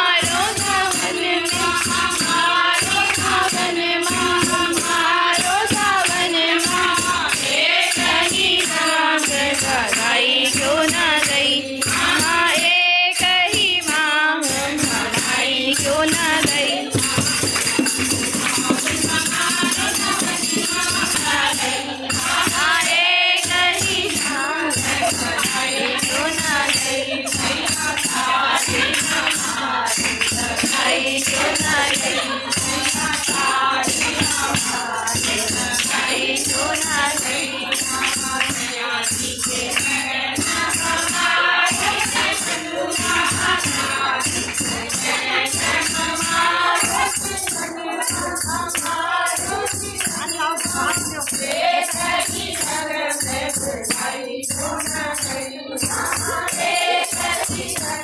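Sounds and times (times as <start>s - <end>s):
group singing: 0.0s - 58.0s
percussion beat: 0.0s - 58.0s.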